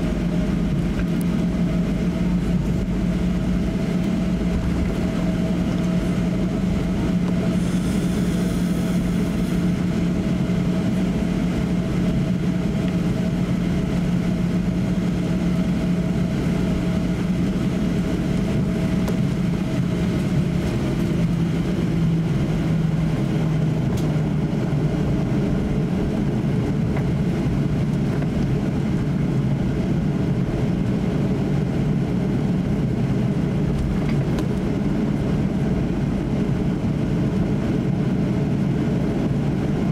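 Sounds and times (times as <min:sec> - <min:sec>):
jet engine cabin hum: 0:00.0 - 0:39.9.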